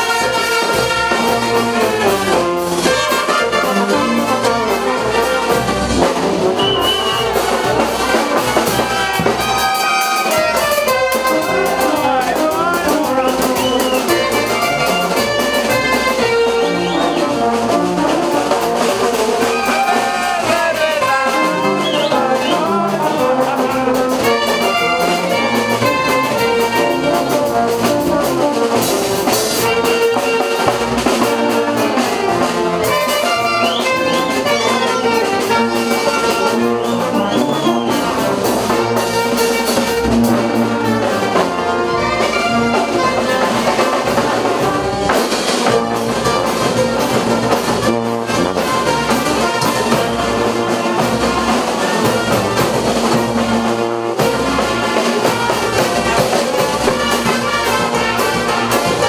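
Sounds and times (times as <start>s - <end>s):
brass band music: 0.0s - 59.0s.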